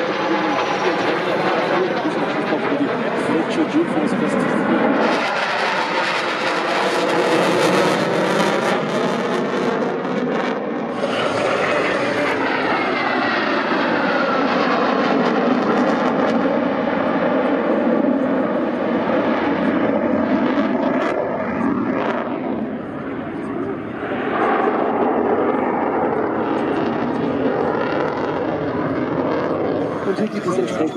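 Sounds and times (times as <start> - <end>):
jet roaring past: 0.0 - 30.9.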